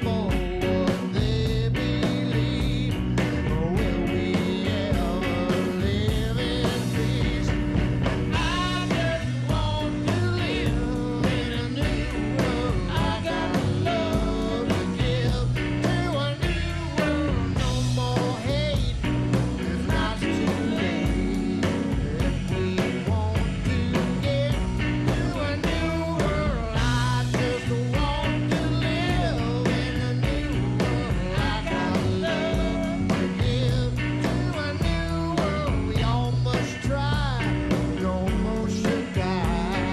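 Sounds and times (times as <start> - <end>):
double bass line: 0.0 - 39.9
drums: 0.0 - 39.9
electric guitar bending notes: 0.0 - 39.9.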